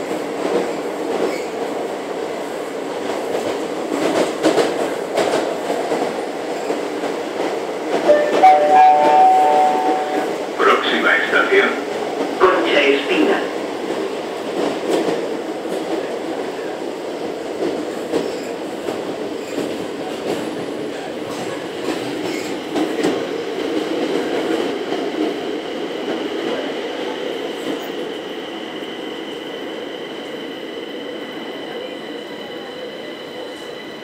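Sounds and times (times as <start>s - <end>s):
train rumbling in tunnel: 0.0s - 34.0s.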